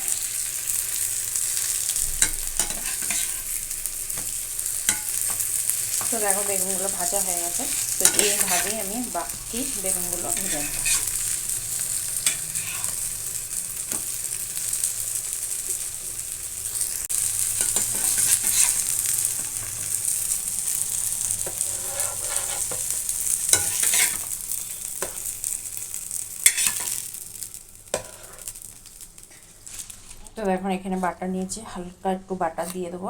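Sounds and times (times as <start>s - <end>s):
food sizzling in a pan: 0.0s - 31.5s.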